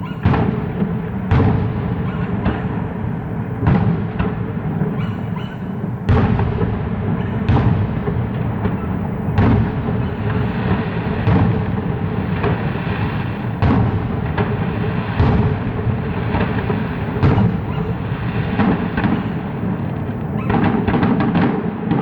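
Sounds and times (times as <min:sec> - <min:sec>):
fireworks booming: 0:00.0 - 0:22.0
fireworks rumble and crackle: 0:00.0 - 0:22.0.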